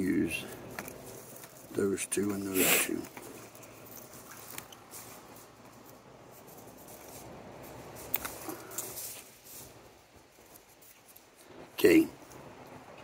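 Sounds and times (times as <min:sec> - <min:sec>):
plant fibres rustling: 0:00.0 - 0:13.0.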